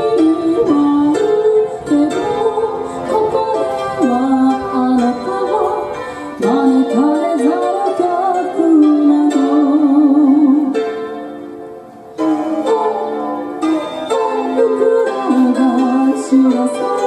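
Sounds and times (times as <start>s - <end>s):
women singing pop song: 0.0s - 10.7s, 12.3s - 17.0s
recorded instrumental backing track: 0.0s - 17.0s.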